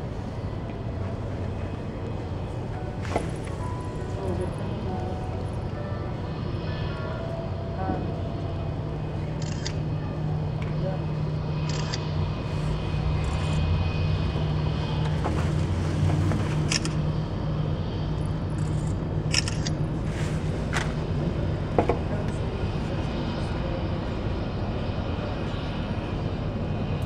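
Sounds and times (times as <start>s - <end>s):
airliner engine rumble: 0.0s - 27.0s.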